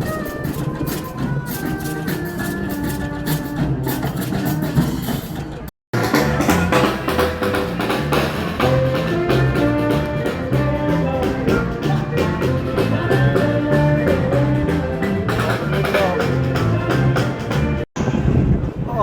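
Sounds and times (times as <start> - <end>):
busy drum beat: 0.0 - 17.9
street band playing: 0.0 - 18.8.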